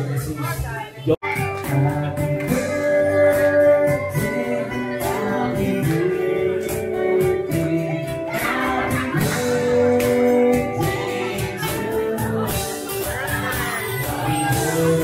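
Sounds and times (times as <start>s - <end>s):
cajon beat: 0.0s - 15.0s
strummed acoustic guitars: 1.2s - 15.0s
man singing into a microphone: 1.6s - 15.0s.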